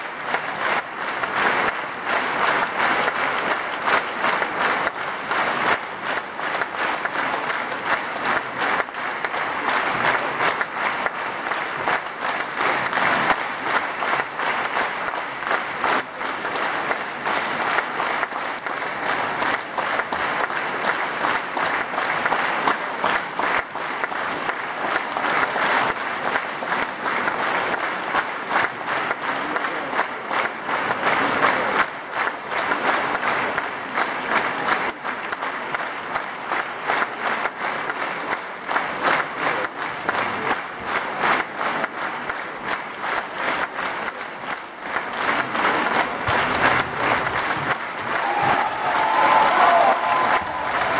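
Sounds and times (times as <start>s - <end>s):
audience applauding: 0.0s - 50.9s.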